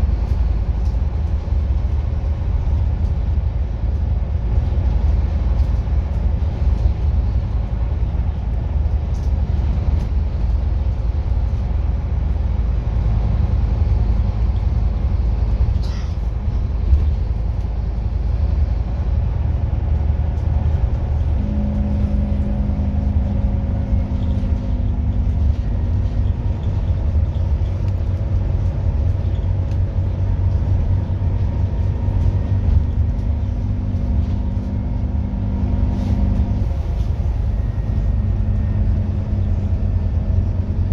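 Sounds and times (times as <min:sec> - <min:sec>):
bus engine rumble: 0:00.0 - 0:40.9
engine and drivetrain whine: 0:00.0 - 0:40.9.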